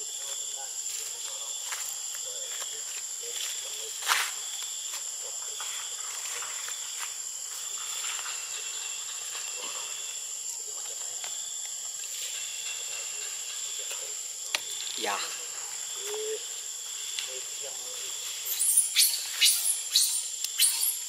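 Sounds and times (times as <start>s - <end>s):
shrill insect chorus: 0.0s - 21.0s.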